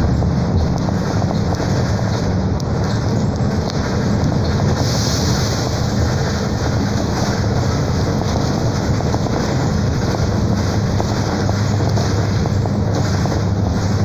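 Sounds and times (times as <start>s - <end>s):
bus diesel engine drone: 0.0s - 14.0s
tyre and road noise: 0.0s - 14.0s.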